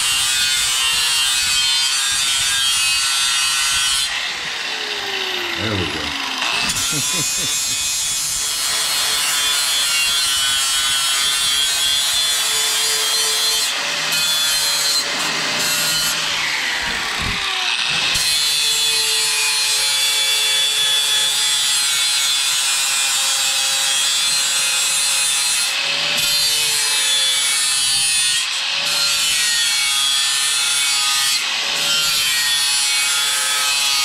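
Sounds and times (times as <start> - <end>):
angle grinder on metal: 0.0 - 34.0.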